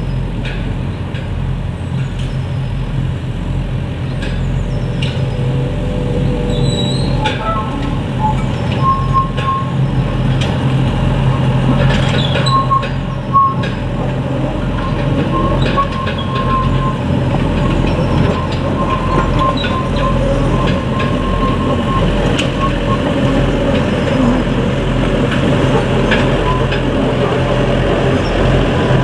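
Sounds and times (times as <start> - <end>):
diesel locomotives running: 0.0 - 29.0
wheel squeals: 4.2 - 29.0.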